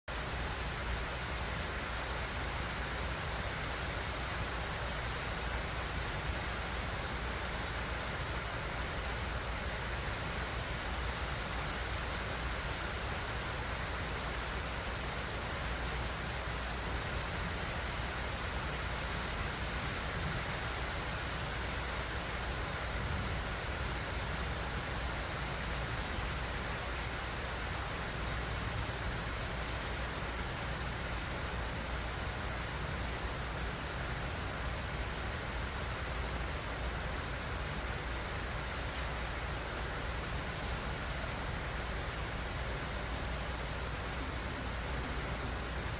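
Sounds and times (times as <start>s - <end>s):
heavy rain downpour: 0.1s - 45.9s.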